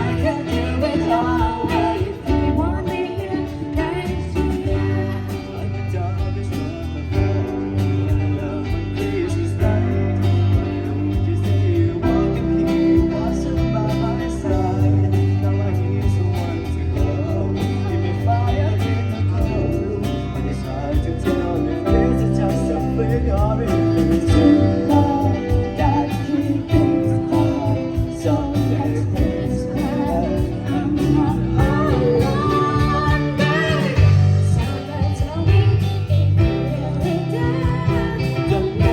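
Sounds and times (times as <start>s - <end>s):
bass: 0.0s - 38.9s
guitar: 0.0s - 38.9s
person singing: 0.0s - 38.9s.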